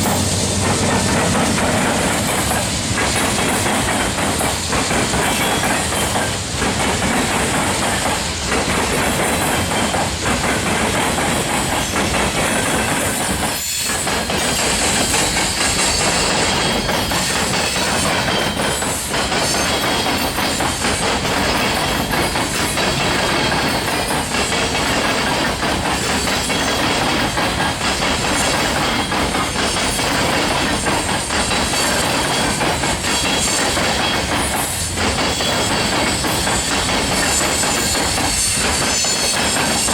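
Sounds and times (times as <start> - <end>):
train wheels rolling on rail: 0.0 - 39.9.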